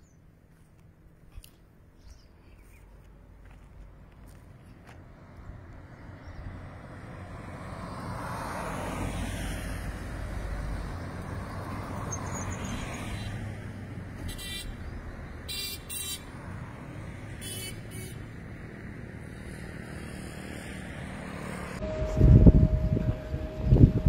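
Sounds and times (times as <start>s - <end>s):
passing vehicles rumbling: 0.0s - 24.0s.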